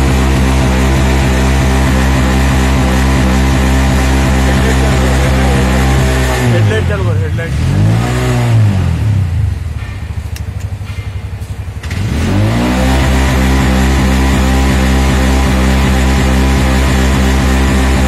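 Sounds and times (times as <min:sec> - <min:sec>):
starter motor cranking engine: 0:00.0 - 0:08.9, 0:09.8 - 0:18.0
engine running down unevenly: 0:00.0 - 0:18.0.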